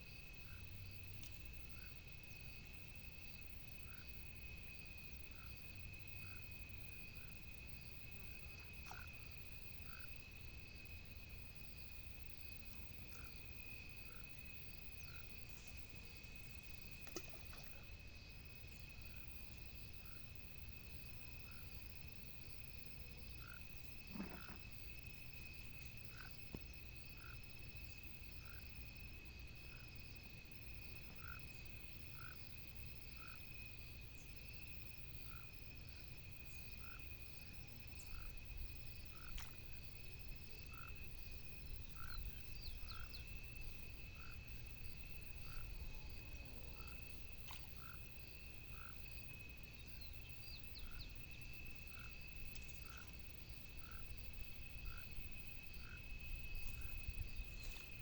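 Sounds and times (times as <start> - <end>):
high insect drone: 0.0 - 58.0
frogs calling: 5.2 - 11.1, 11.8 - 58.0.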